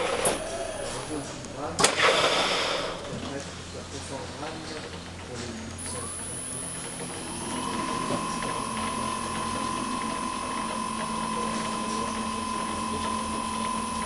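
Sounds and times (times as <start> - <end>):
milking robot mechanical whine: 0.0 - 14.0.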